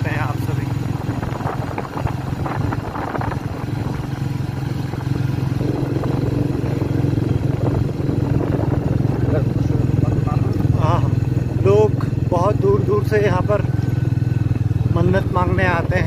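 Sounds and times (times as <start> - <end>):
vehicle engine cruising hum: 0.0 - 16.0.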